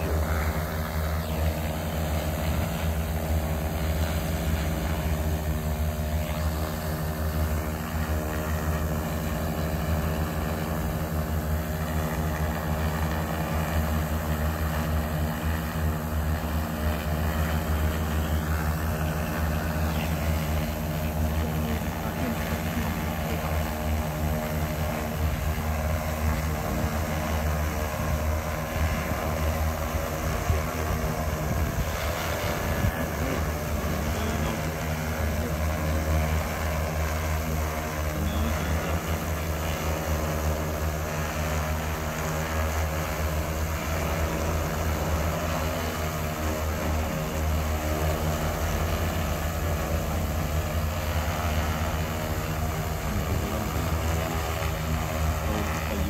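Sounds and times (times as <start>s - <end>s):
drone hovering: 0.0s - 56.0s.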